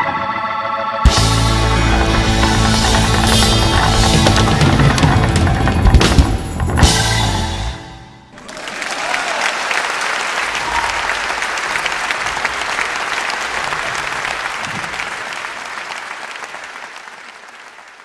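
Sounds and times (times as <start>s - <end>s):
audience applauding: 1.2s - 6.4s, 8.4s - 18.0s.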